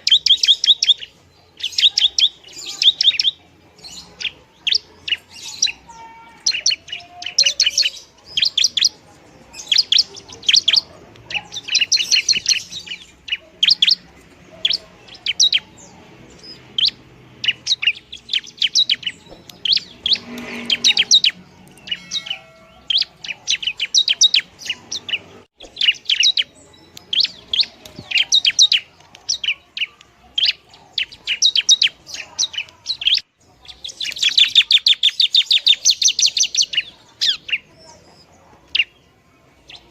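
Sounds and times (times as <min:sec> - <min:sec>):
shrike high chirping song: 0:00.0 - 0:32.1.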